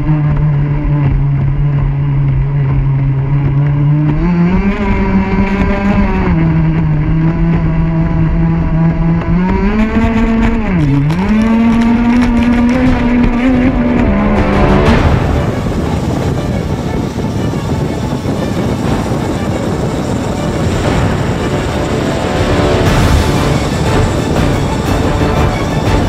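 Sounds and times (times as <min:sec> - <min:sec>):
boat two-stroke engine revving: 0:00.0 - 0:26.0.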